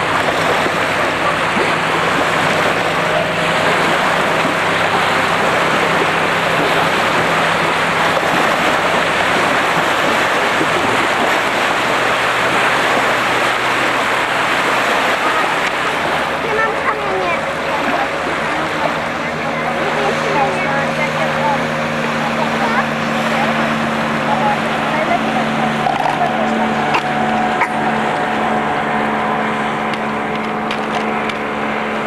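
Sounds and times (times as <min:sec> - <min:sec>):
motorboat engine hum: 0:00.0 - 0:32.0
water rushing: 0:00.0 - 0:32.0
wind: 0:00.0 - 0:32.0.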